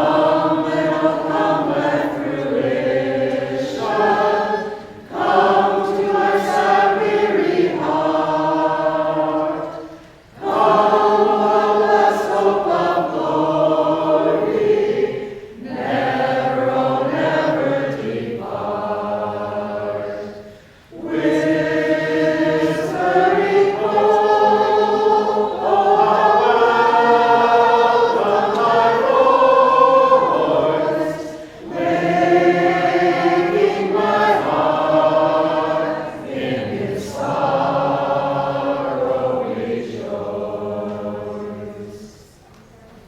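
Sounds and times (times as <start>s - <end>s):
small choir singing: 0.0s - 43.0s.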